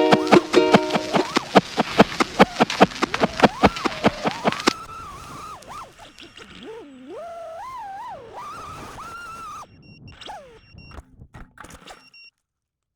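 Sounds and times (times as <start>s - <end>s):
drone motors whining: 0.0s - 12.2s.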